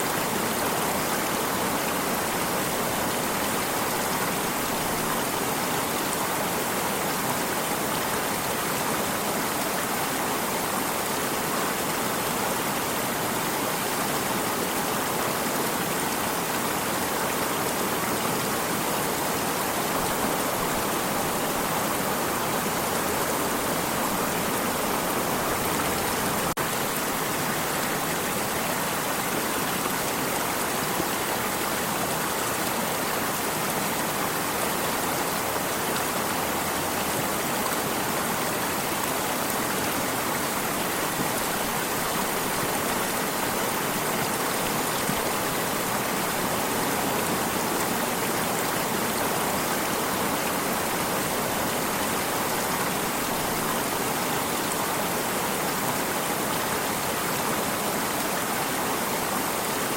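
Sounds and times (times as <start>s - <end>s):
stream of water running: 0.0s - 59.9s.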